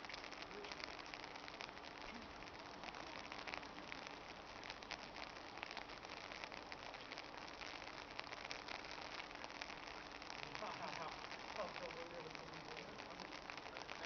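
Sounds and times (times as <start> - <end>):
crackling hiss like rain: 0.0 - 14.0.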